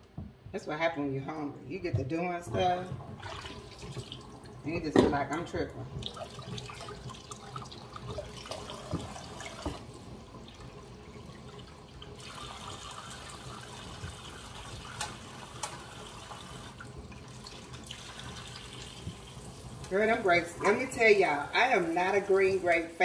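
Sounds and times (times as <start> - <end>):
tap water running into sink: 1.9 - 22.9.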